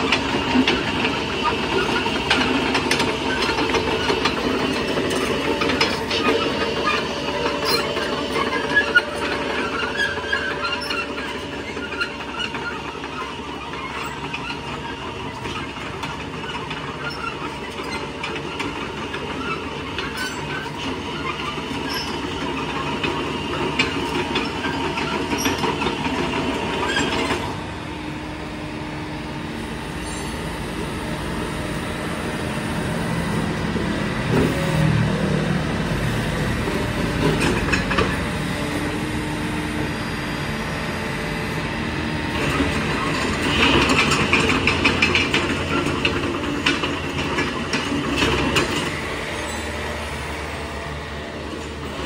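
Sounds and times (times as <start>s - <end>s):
track links clattering and squealing: 0.0s - 27.6s, 29.9s - 31.8s, 32.6s - 52.0s
diesel engine running: 0.0s - 52.0s.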